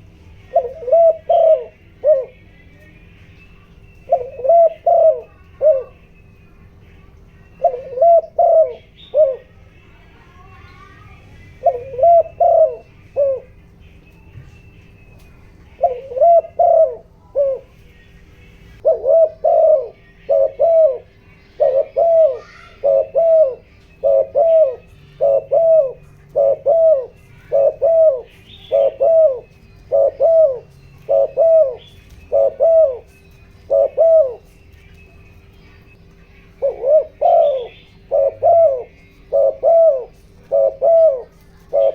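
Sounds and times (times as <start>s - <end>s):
dove cooing: 0.0s - 41.9s
small birds chirping faintly: 0.0s - 41.9s.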